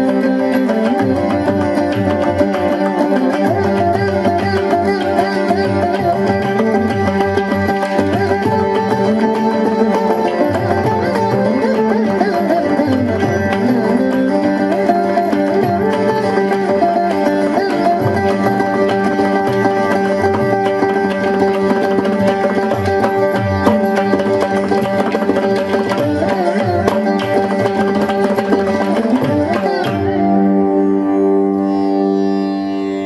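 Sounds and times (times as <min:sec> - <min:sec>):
hand drum percussion: 0:00.0 - 0:30.7
plucked string melody: 0:00.0 - 0:33.0.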